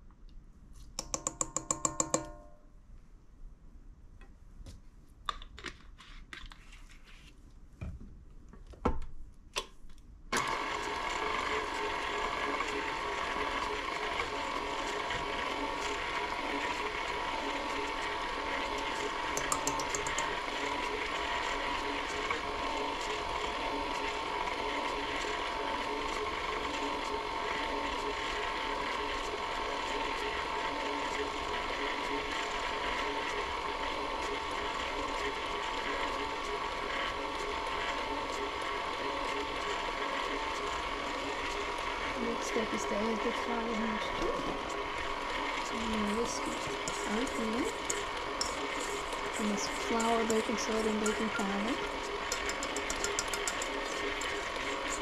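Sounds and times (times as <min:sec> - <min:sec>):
stand mixer running: 0:10.3 - 0:55.0.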